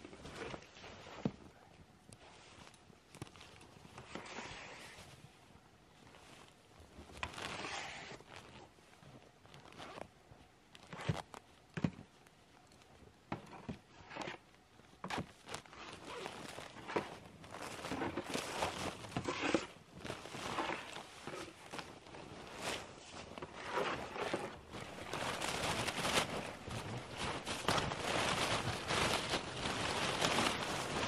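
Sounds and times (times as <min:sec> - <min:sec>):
tent fabric rustling: 0:00.0 - 0:31.0.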